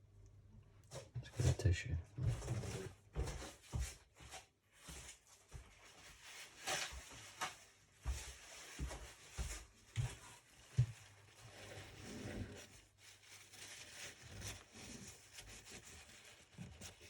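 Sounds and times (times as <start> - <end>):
paper tissue rustling: 2.6 - 17.0.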